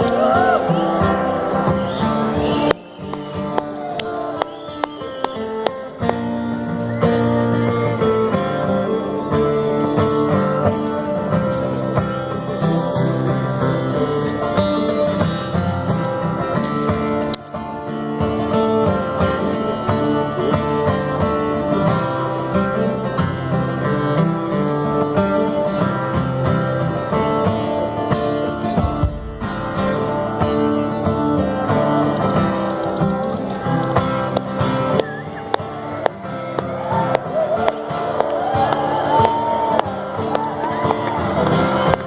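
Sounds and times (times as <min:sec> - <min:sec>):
live band with guitars: 0:00.0 - 0:42.0.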